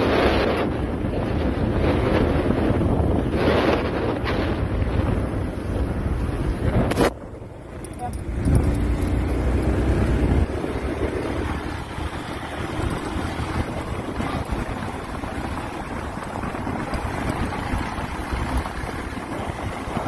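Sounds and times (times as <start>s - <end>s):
motorcycle engine: 0.0s - 20.0s
wind buffeting microphone: 0.0s - 20.0s.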